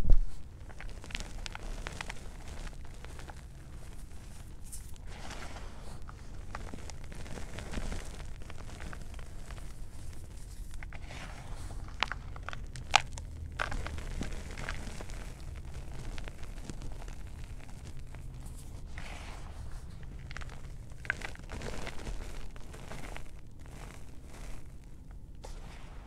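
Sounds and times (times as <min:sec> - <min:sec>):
chalk crunching and crackling: 0:00.2 - 0:26.0.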